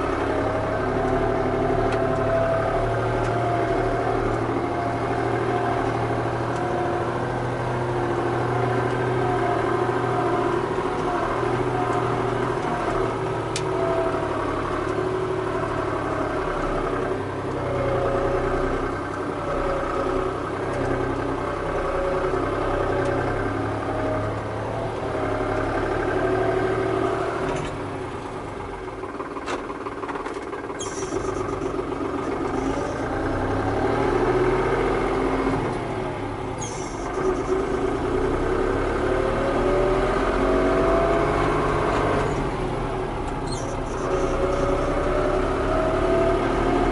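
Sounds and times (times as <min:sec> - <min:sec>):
tractor engine revving: 0:00.0 - 0:46.9.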